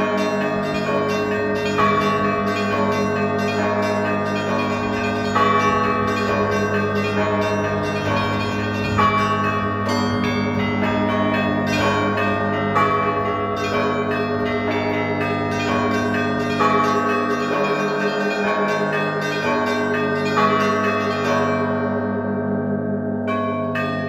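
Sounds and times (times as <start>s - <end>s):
bells of different pitches struck: 0.0s - 24.0s
lingering hum of large bell: 0.0s - 24.0s.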